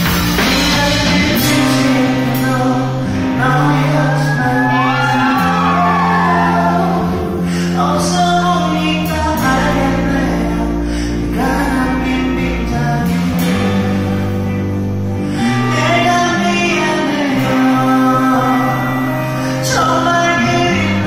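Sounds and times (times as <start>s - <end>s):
electric bass notes: 0.0s - 21.0s
electric guitar: 0.0s - 21.0s
man singing: 0.3s - 14.6s, 15.2s - 21.0s.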